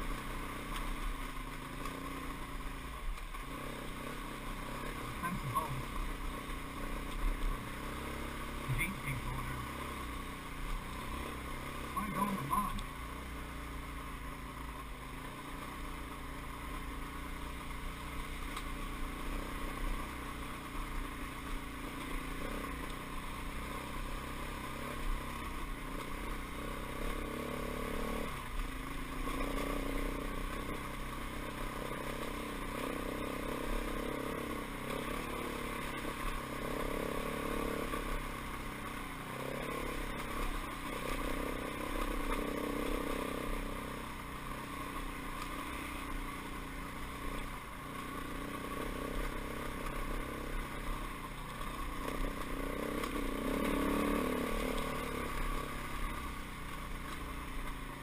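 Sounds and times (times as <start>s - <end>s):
dirt bike engine revving: 3.4s - 13.8s, 18.3s - 56.4s.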